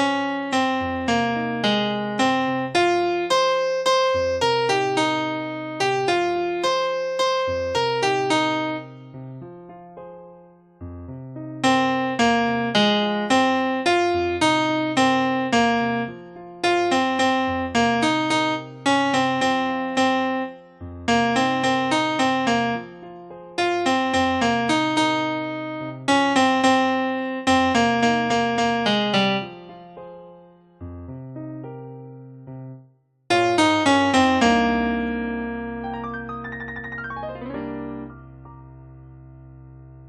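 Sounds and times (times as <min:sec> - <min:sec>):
keyboard playing slow tune: 0:00.0 - 0:39.4.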